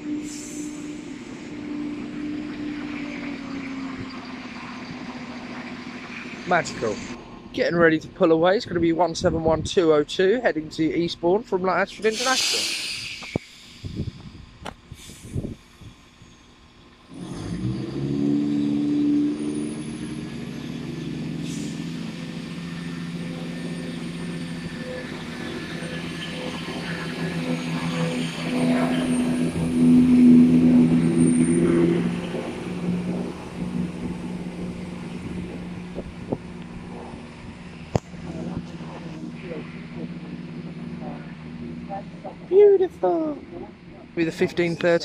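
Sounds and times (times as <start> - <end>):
diesel train engines: 0.0 - 45.0.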